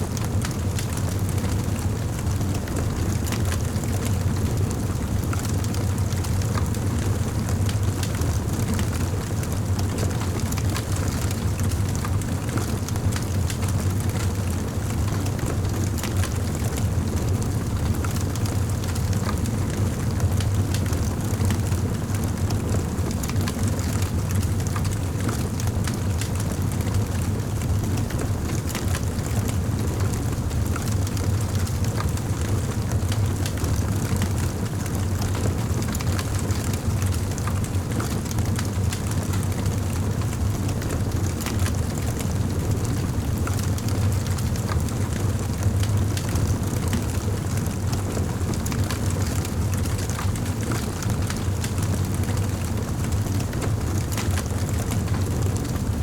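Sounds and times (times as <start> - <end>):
wood fire crackling and popping: 9.0 - 15.2, 15.8 - 30.1, 30.7 - 42.2, 42.8 - 55.8.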